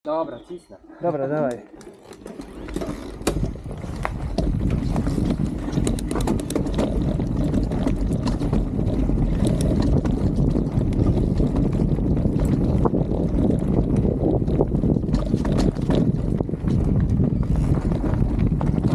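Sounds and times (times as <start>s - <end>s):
bike clicks and rattles: 1.3s - 18.9s
bike tyre noise on dirt: 1.8s - 18.9s
wind on microphone: 2.4s - 18.9s.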